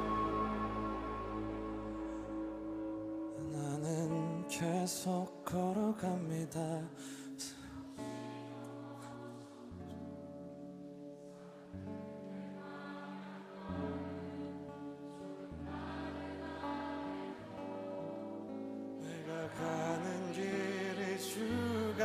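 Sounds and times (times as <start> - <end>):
slow music of sustained chords: 0.0 - 6.0, 7.8 - 22.0.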